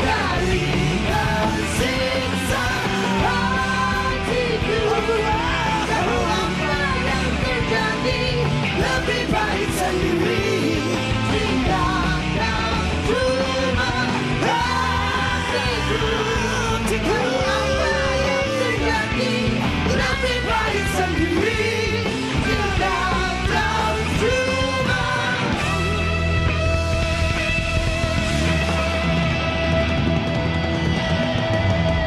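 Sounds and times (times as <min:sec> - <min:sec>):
rock band playing: 0:00.0 - 0:32.0.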